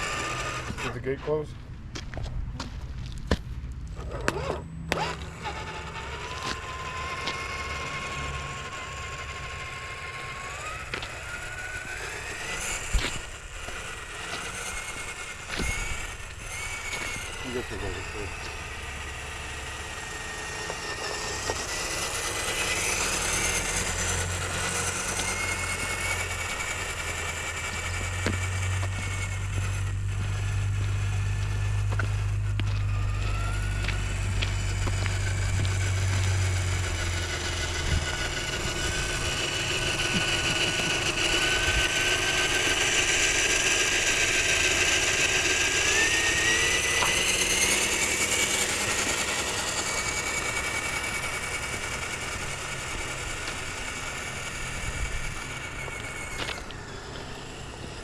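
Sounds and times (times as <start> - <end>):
toy truck electric motor whining: 0.0 - 1.4, 3.9 - 58.0.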